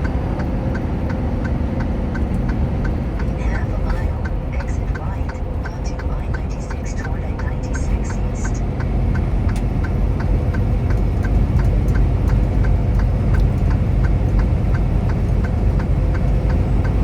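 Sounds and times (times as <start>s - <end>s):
car driving rumble: 0.0s - 17.0s
turn signal ticking: 0.0s - 17.0s.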